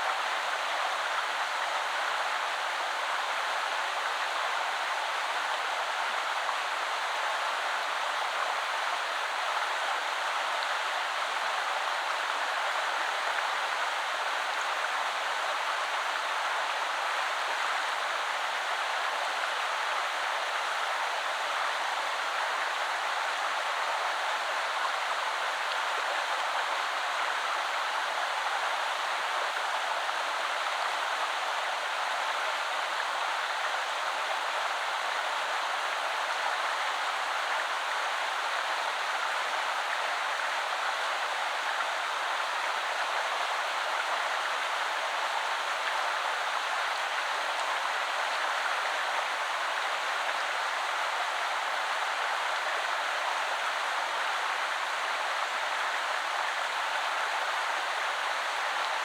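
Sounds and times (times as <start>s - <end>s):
river flowing over stones: 8.2s - 59.0s.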